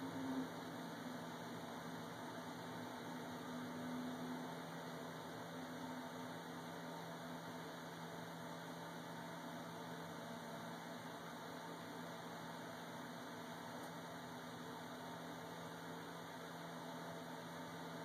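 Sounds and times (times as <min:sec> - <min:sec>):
low hum with hiss: 0:00.0 - 0:18.0.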